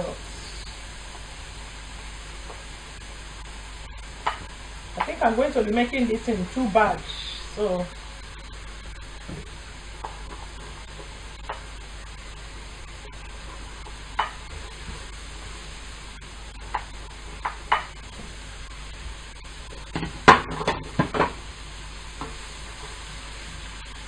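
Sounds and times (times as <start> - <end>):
vegetables sizzling in pan: 0.0 - 24.0.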